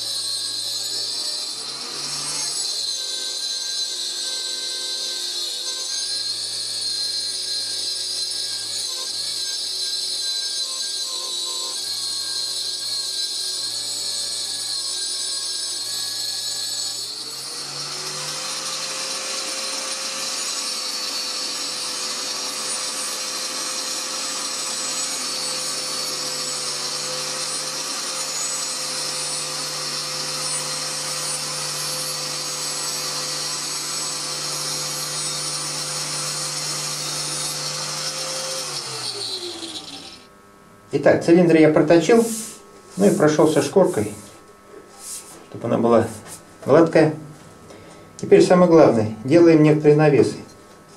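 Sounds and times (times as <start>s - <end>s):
router whine milling wood: 0.0s - 44.4s.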